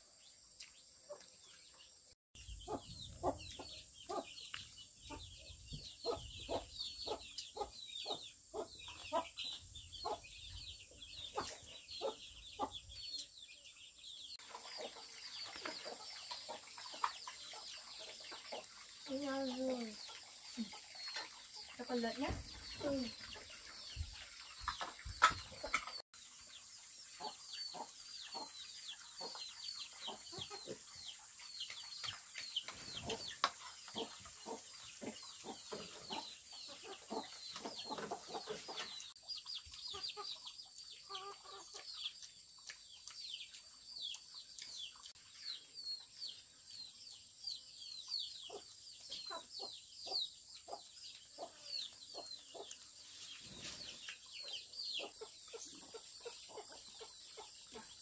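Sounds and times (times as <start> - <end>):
chickens clucking: 2.5 - 13.4, 14.3 - 26.6, 27.2 - 45.2, 48.3 - 58.0.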